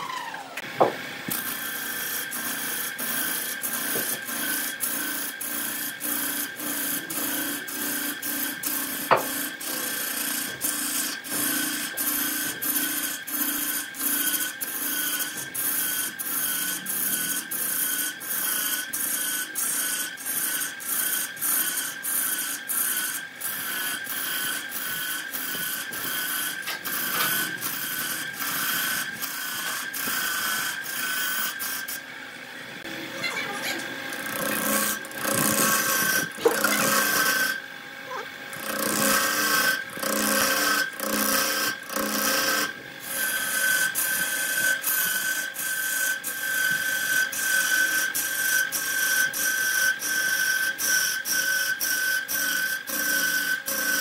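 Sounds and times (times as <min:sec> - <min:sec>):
wood lathe whine: 0:00.0 - 0:54.0
gouge scraping wood: 0:01.3 - 0:32.0, 0:32.8 - 0:37.6, 0:38.6 - 0:54.0.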